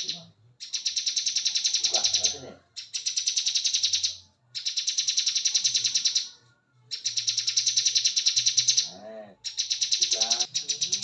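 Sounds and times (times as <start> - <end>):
bird singing rapid rattling song: 0.0 - 11.0.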